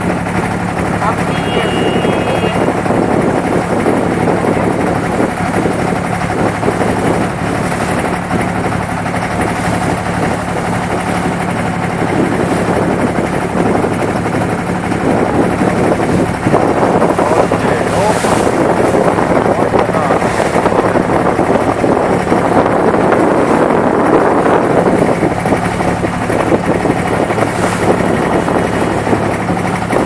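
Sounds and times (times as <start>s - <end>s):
boat engine running: 0.0s - 30.0s
water wash: 0.0s - 30.0s.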